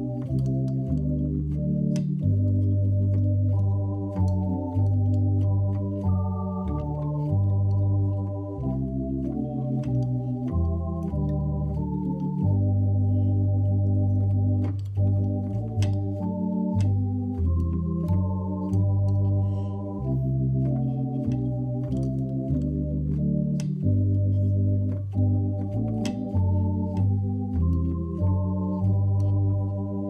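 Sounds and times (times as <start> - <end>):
deep bass line: 0.0 - 30.0
organ playing sustained chords: 0.0 - 30.0.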